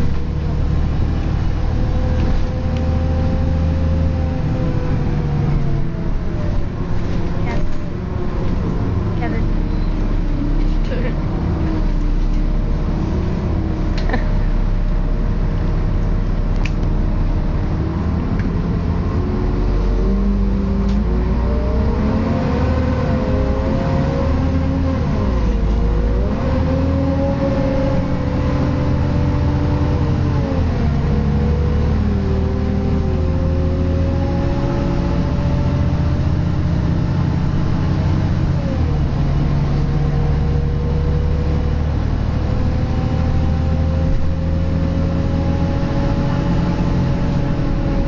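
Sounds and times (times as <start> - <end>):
bus engine rumble: 0.0 - 48.0.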